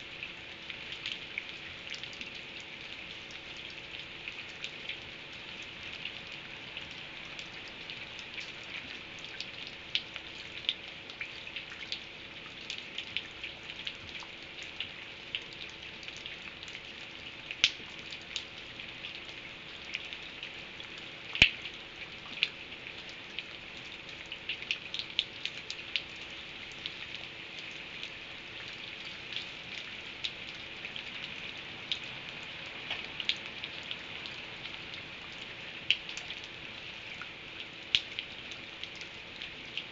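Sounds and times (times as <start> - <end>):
faint steady hum: 0.0 - 39.9
rain drops ticking on hard surface: 0.0 - 39.9.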